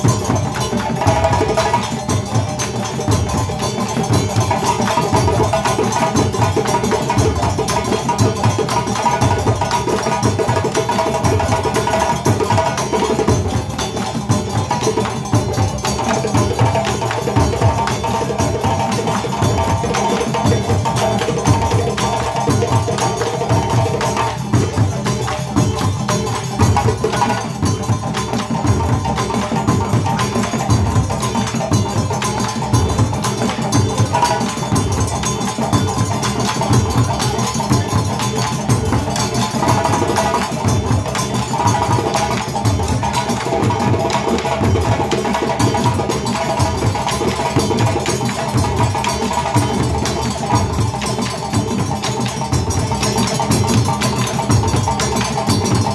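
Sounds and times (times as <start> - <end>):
hand drums playing polyrhythm: 0.0 - 55.9.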